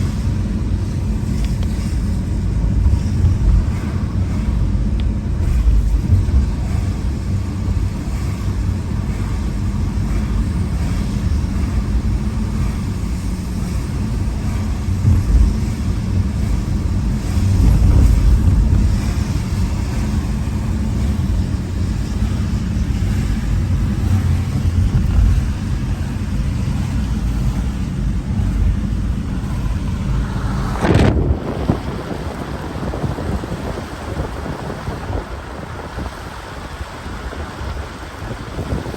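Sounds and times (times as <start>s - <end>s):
car road rumble: 0.0s - 38.9s.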